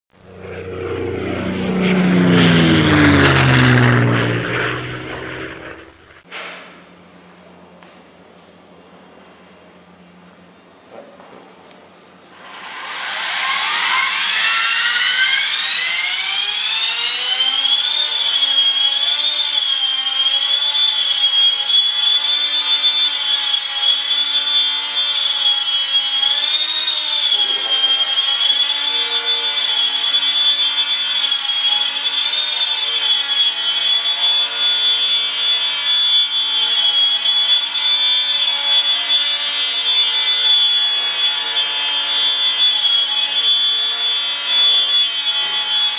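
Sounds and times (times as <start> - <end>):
model helicopter motor whine: 0.2 - 6.2, 12.3 - 45.9.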